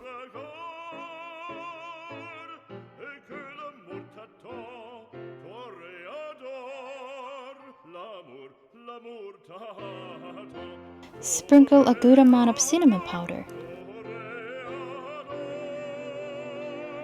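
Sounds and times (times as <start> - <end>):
operatic singing voice: 0.0 - 17.0.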